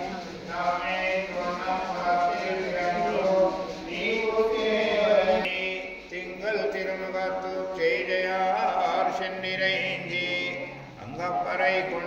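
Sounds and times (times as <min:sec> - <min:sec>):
men chanting a hymn: 0:00.0 - 0:12.0.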